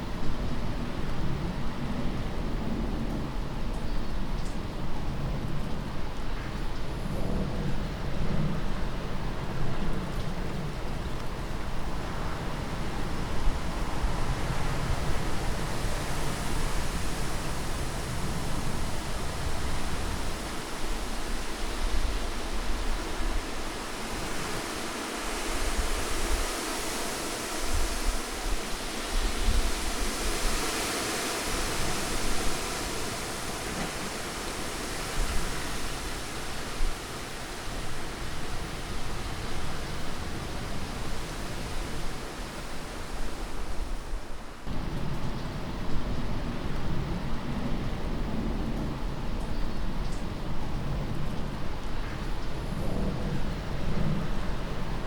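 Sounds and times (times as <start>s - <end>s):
rushing wind: 0.0s - 55.0s.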